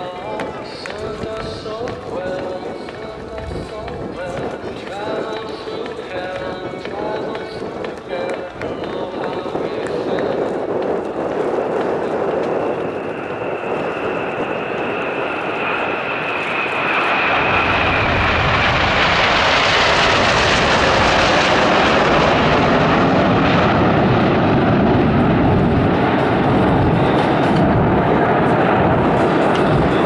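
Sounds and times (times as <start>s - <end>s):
jet engine whine: 0.0s - 30.0s
jet roar: 0.0s - 30.0s.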